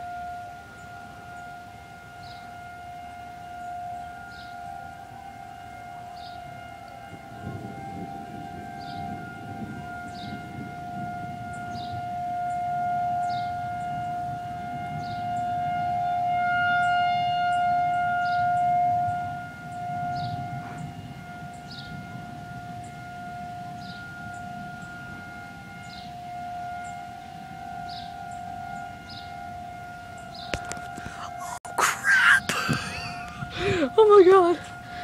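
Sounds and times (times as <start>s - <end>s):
tornado siren steady tone: 0.0s - 35.0s.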